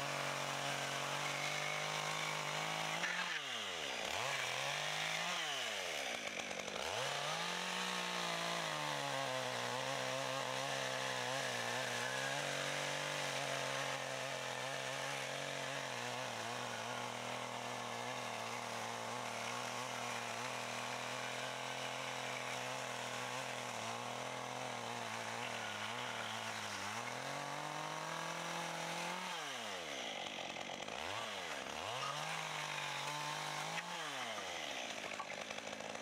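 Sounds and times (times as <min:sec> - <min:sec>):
chainsaw cutting logs: 0:00.0 - 0:36.0.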